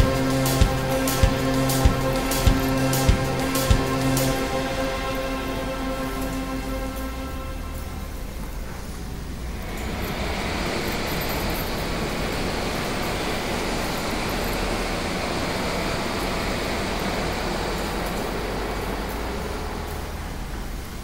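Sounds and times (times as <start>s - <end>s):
steady rushing noise: 0.0s - 21.0s.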